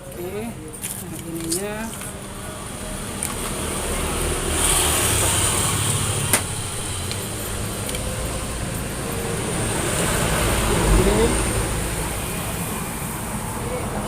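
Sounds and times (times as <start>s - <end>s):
motor vehicle rumbling: 0.0s - 14.0s.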